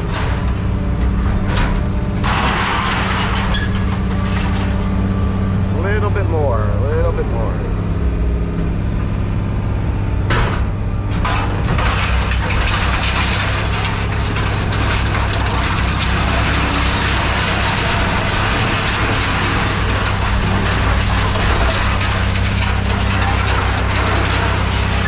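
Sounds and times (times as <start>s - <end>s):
scrap metal crushing: 0.0s - 7.5s, 10.2s - 25.0s
heavy machine engine running: 0.0s - 25.0s.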